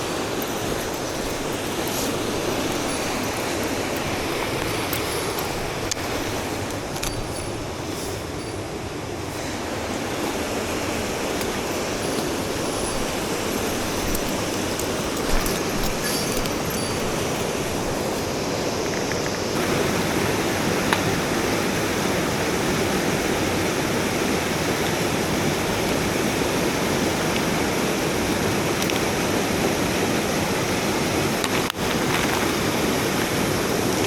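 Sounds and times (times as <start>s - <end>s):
stream water rushing over rocks: 0.0s - 34.0s.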